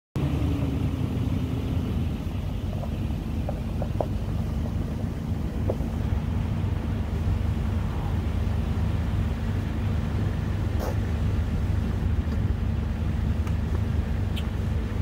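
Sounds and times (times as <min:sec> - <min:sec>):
vehicle engine idling: 0:00.2 - 0:15.0.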